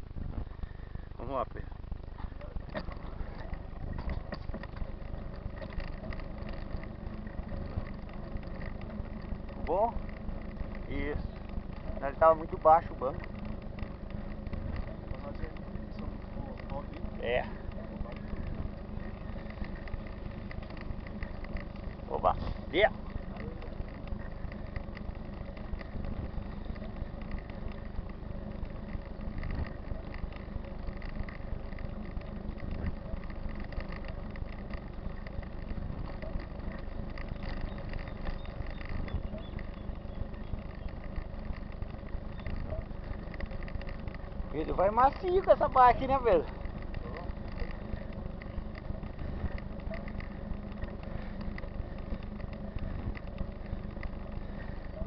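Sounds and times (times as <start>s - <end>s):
bike rolling on dirt road: 0.0s - 55.0s
wind buffeting microphone: 2.6s - 55.0s
rattling clicks: 2.7s - 55.0s.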